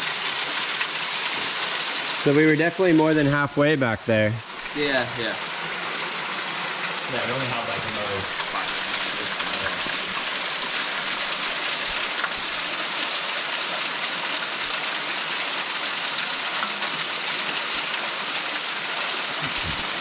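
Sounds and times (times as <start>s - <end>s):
small waterfall splashing: 0.0s - 20.0s.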